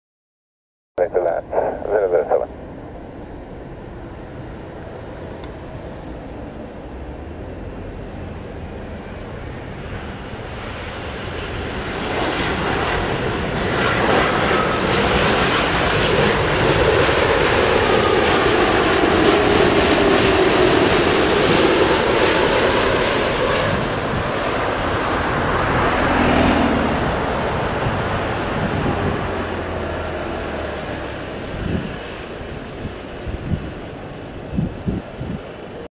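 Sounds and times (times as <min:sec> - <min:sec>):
jet engines roaring: 0:01.0 - 0:35.9.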